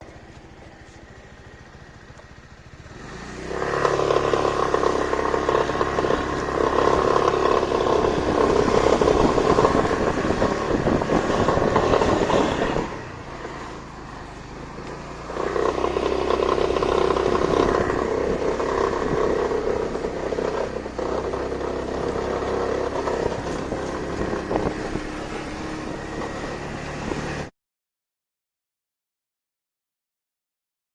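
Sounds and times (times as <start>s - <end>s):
scooter engine idling and accelerating: 0.0s - 27.5s.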